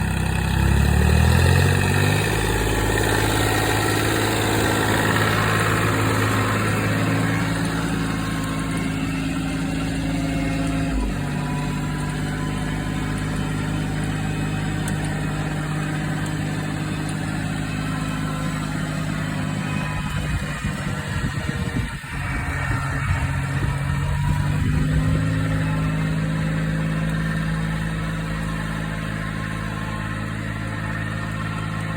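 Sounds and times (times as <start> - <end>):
tractor diesel engine tilling: 0.0 - 31.9.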